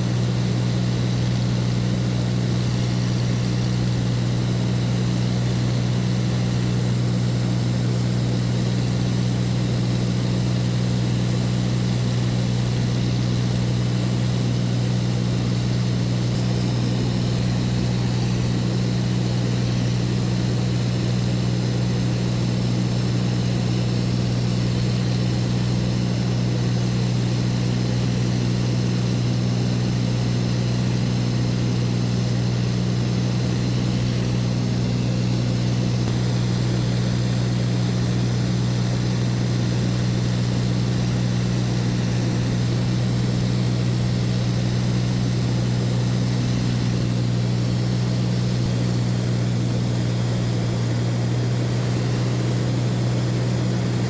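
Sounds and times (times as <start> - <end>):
propeller engine droning: 0.0 - 54.0.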